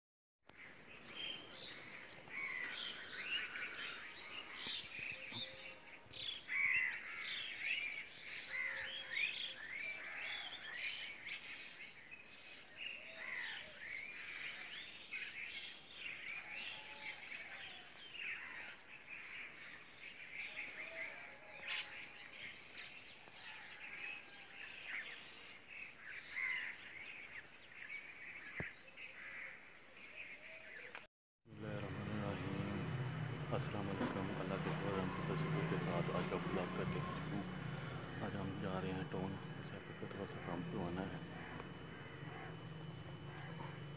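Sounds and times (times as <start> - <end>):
lower bird calls: 0.5 - 43.9
birds chirping and whistling: 0.6 - 29.2, 32.2 - 43.9.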